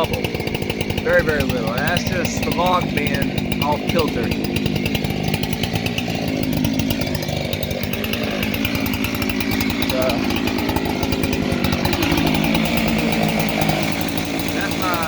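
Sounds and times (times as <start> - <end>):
chainsaw running steadily: 0.0 - 15.0.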